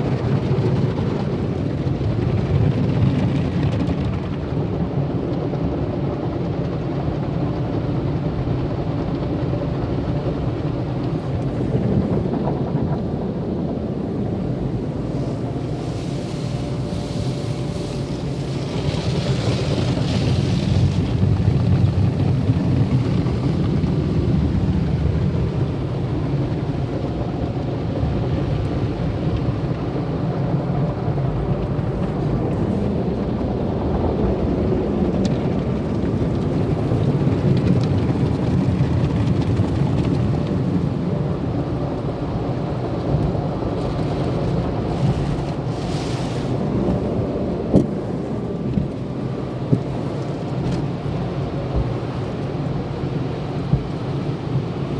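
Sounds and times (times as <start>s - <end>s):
car wash machinery running: 0.0s - 54.9s.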